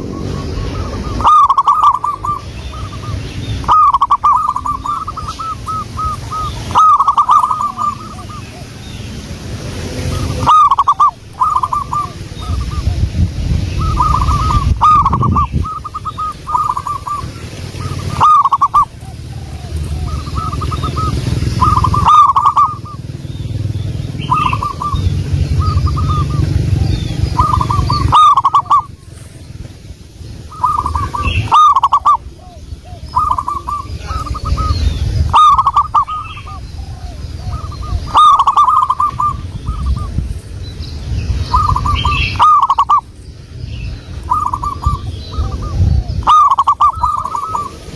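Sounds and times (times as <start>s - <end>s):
dove cooing: 0.0s - 29.4s, 30.4s - 40.2s, 41.5s - 43.1s, 44.1s - 47.9s
small birds chirping: 0.0s - 47.9s.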